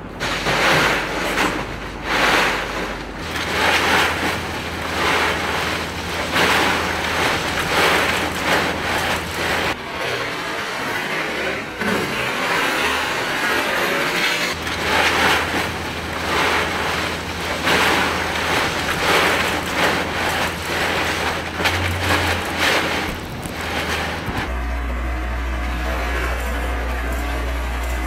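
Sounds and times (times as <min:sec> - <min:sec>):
low steady hum: 0:00.0 - 0:10.0, 0:14.4 - 0:28.0
crushed ice crunching: 0:00.0 - 0:28.0.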